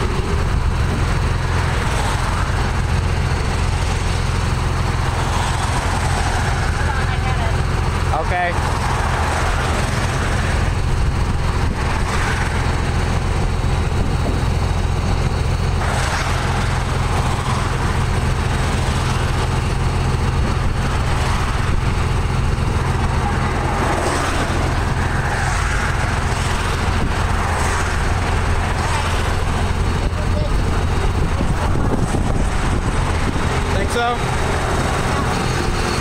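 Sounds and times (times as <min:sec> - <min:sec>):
road noise hiss: 0:00.0 - 0:36.0
vehicle engine rumbling: 0:00.0 - 0:36.0.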